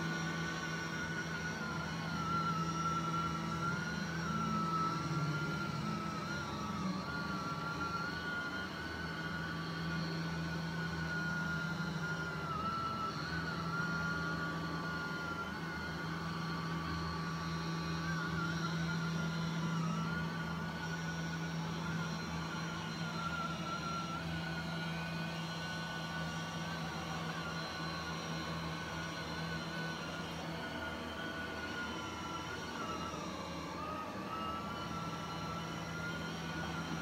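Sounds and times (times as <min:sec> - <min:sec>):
robot vacuum humming and whining: 0:00.0 - 0:37.0.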